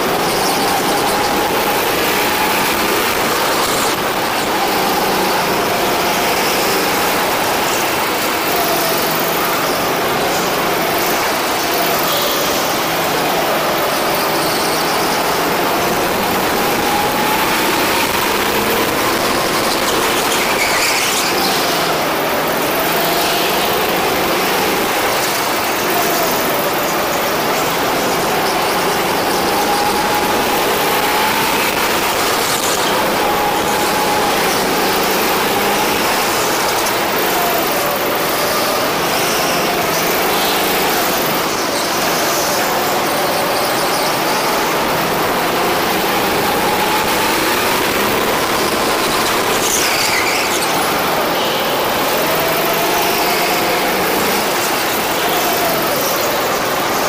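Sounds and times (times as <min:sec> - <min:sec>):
go-kart engine revving: 0:00.0 - 0:57.0
steady rushing noise: 0:00.0 - 0:57.0.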